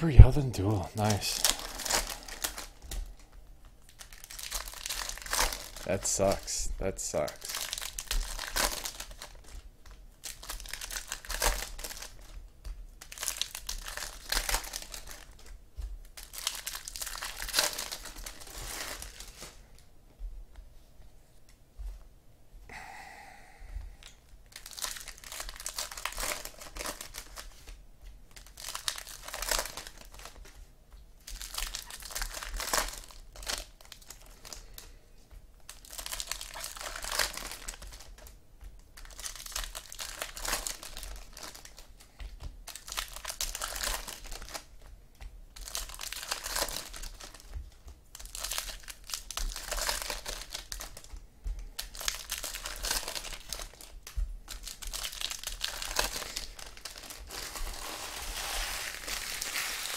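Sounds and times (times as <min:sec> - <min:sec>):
foil wrappers crinkling and tearing: 0:00.2 - 0:19.6, 0:24.0 - 0:30.6, 0:31.2 - 0:35.0, 0:35.6 - 0:59.9.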